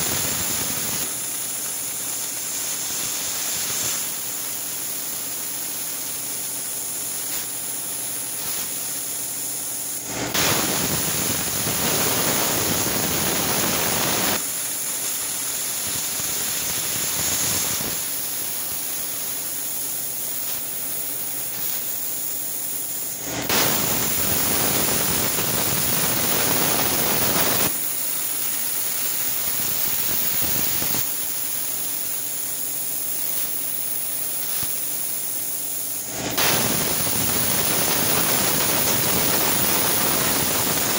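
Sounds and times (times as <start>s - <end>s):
plasma torch arc hissing: 0.0s - 40.9s.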